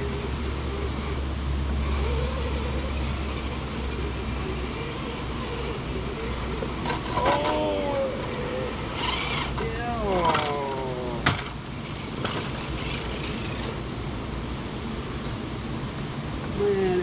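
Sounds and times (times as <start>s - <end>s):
toy truck motor straining: 0.0s - 13.8s.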